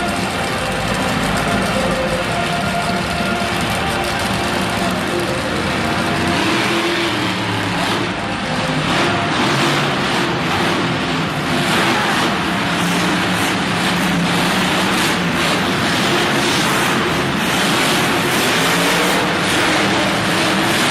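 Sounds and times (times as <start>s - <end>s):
monster truck engine revving: 0.0s - 20.9s.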